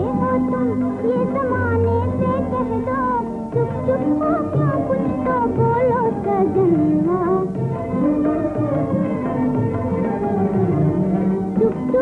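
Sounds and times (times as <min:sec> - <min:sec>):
old film soundtrack music: 0:00.0 - 0:12.0.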